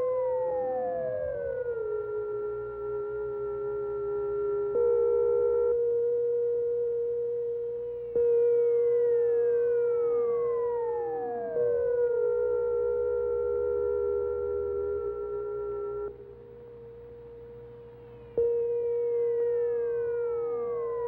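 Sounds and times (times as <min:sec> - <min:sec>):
electronic drone tones: 0:01.4 - 0:21.0.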